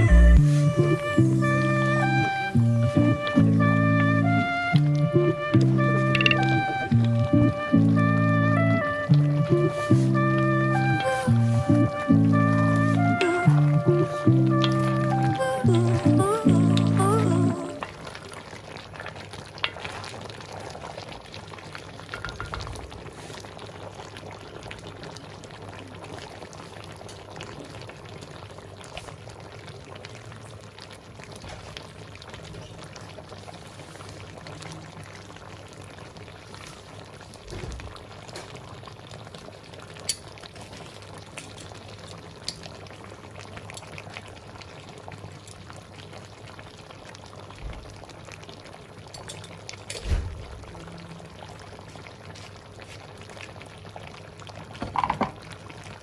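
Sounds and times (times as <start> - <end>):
stew bubbling in a pot: 0.3 - 56.0.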